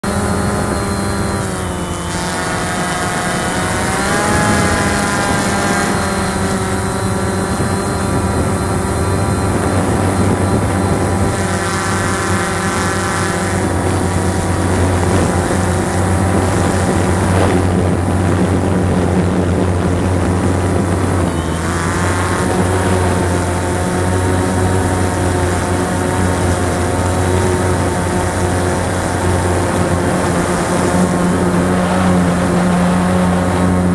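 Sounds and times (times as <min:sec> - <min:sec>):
drone motors and propellers humming: 0:00.0 - 0:33.9.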